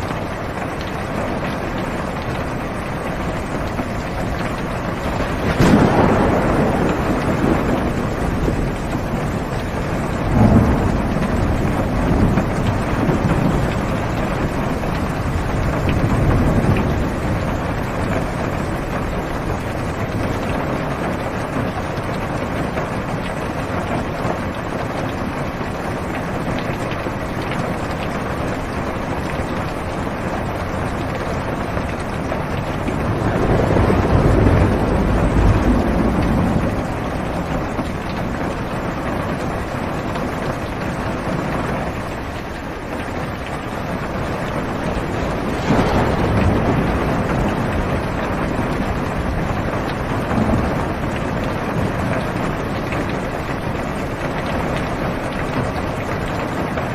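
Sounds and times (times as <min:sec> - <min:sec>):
rain heard from inside car: 0:00.0 - 0:56.9
thunder rolling: 0:00.6 - 0:24.5, 0:27.8 - 0:42.1, 0:43.6 - 0:56.6.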